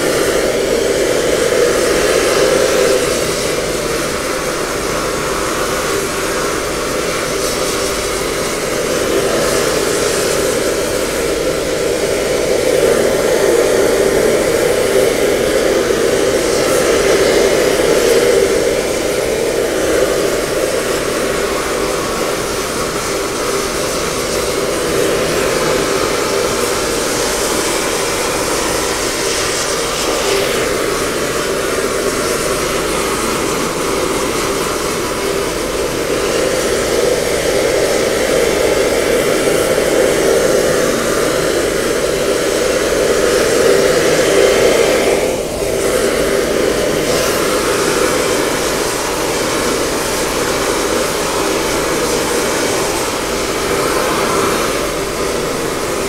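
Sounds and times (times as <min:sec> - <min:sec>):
welding torch flame hissing: 0:00.0 - 0:56.0.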